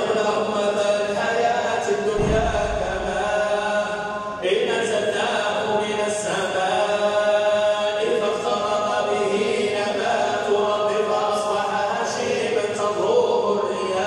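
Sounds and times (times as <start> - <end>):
person reciting in melodic chant: 0.0 - 14.0.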